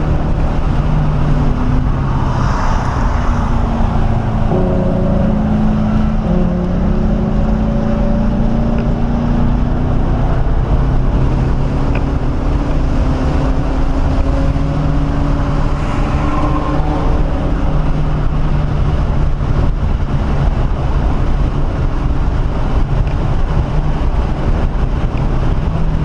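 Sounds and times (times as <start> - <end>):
car engine revving: 0.0 - 26.0
road noise: 0.0 - 26.0.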